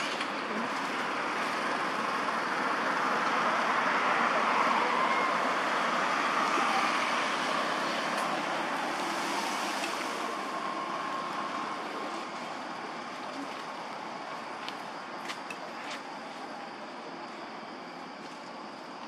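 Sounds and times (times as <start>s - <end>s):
steady rushing background noise: 0.0s - 19.0s.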